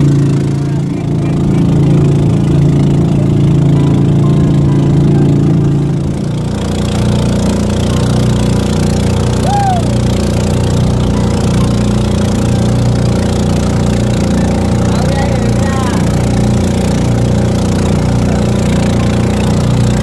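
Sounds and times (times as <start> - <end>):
boat engine drone: 0.0 - 20.0.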